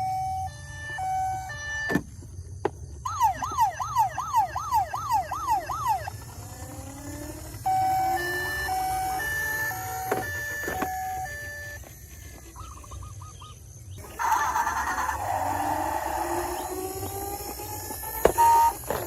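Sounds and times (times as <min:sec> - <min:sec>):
toy siren wailing: 0:00.0 - 0:02.1, 0:03.0 - 0:13.4, 0:14.0 - 0:19.0
two-tone hi-lo siren: 0:00.0 - 0:02.1, 0:03.0 - 0:12.9, 0:14.0 - 0:19.0.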